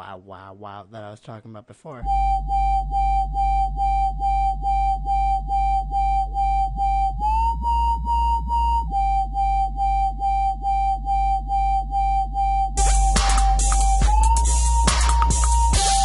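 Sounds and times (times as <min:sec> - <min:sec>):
deep sub bass: 0:02.0 - 0:16.0
wobbling synth bass: 0:02.0 - 0:16.0.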